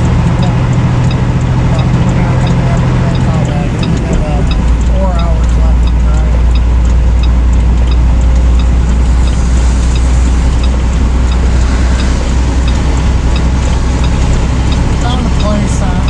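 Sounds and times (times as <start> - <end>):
faint regular ticking: 0.0 - 16.0
road noise: 0.0 - 16.0
truck engine drone: 0.0 - 16.0.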